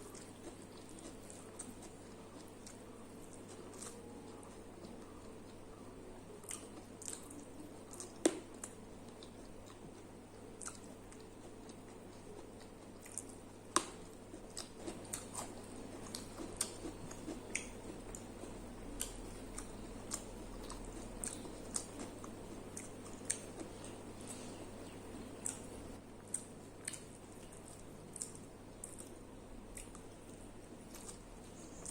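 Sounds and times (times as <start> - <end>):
person chewing: 0.0 - 31.9.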